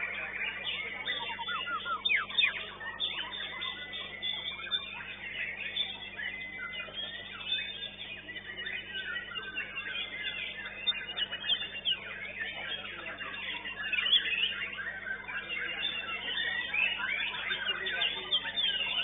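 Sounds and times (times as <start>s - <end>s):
chorus of birds singing: 0.0s - 19.0s.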